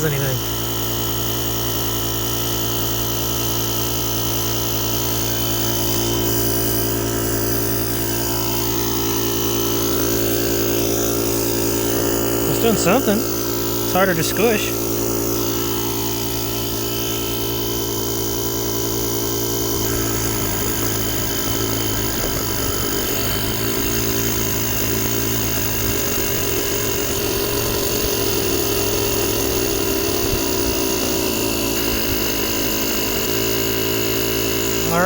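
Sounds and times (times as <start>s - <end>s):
air compressor humming: 0.0s - 35.0s.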